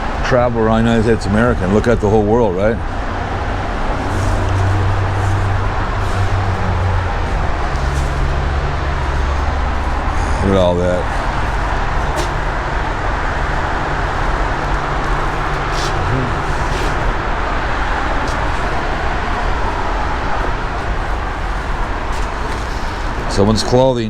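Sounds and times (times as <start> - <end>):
faint low engine drone: 0.0 - 24.0
traffic rumble: 0.0 - 24.0.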